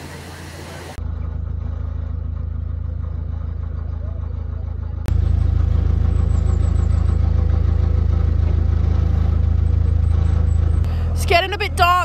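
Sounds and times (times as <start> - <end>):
diesel engine chugging: 0.0 - 12.0.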